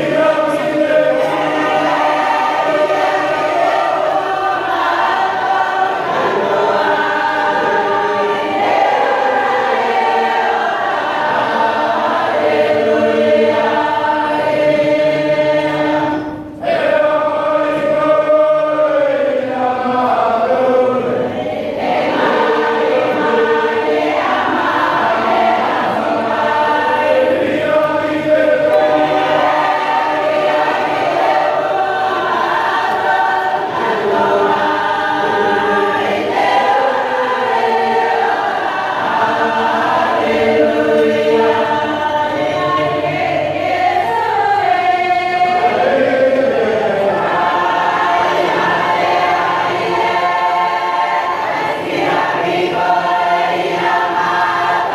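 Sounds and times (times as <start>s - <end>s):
congregation singing a hymn: 0.0s - 54.9s.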